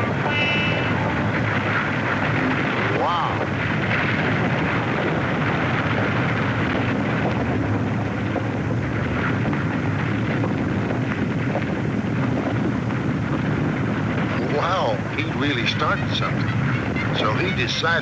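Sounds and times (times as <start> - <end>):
avalanche of sliding snow rumbling: 0.0 - 18.0.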